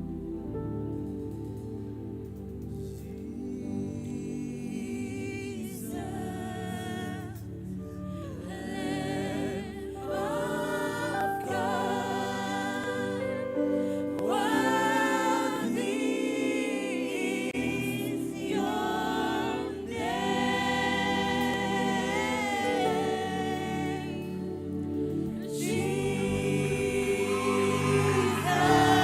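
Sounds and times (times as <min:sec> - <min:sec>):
sustained keyboard chords: 0:00.0 - 0:29.0
group singing gospel song: 0:02.7 - 0:29.0.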